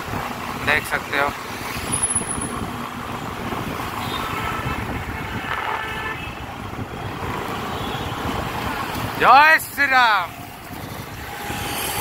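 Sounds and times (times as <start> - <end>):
vehicle road noise rumble: 0.0 - 12.0.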